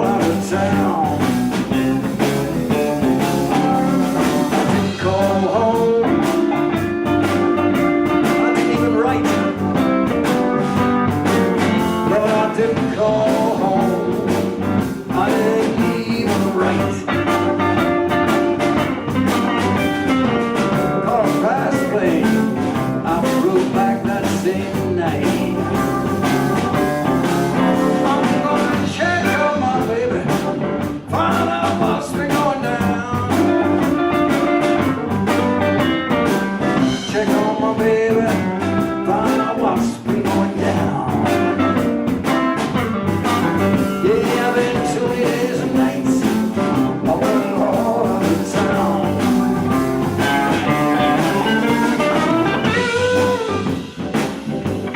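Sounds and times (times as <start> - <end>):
live blues band playing: 0.0 - 54.9.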